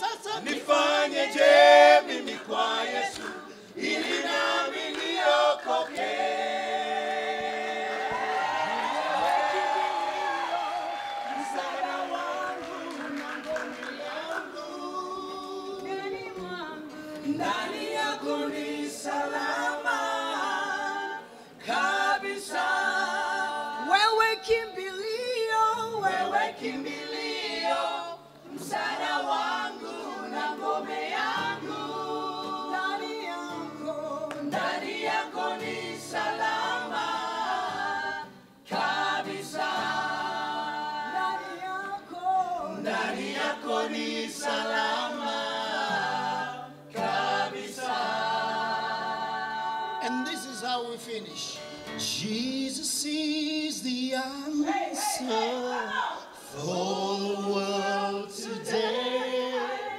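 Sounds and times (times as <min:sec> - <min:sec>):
gospel choir singing: 0:00.0 - 0:59.9.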